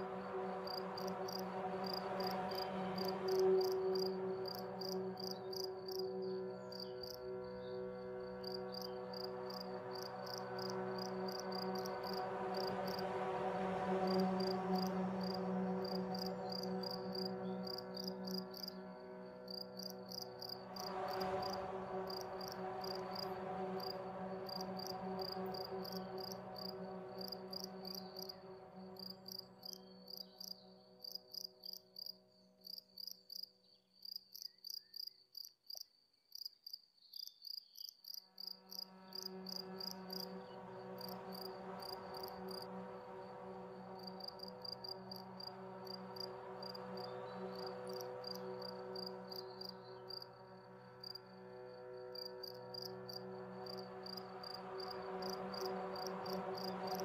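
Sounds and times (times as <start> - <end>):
crickets chirping: 0.0 - 13.1, 13.9 - 57.0
low drone: 0.0 - 32.6, 38.6 - 57.0.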